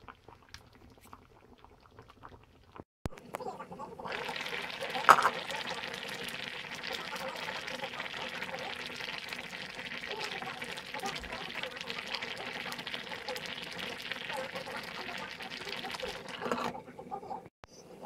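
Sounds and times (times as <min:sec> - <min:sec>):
broth simmering and bubbling: 0:00.0 - 0:18.0.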